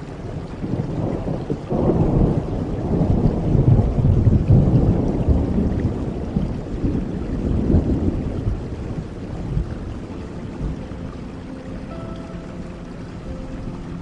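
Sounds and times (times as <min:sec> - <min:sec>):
steady rain: 0:00.0 - 0:14.0
rolling rumble of thunder: 0:00.1 - 0:11.9.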